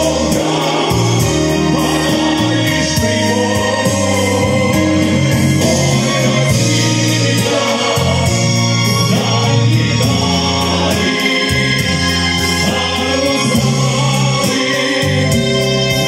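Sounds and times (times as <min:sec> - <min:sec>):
male vocal quartet singing: 0:00.0 - 0:16.0.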